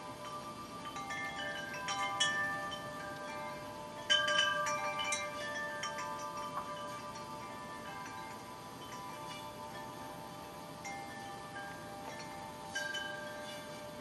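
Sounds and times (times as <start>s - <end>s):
metal chimes ringing: 0.0s - 14.0s.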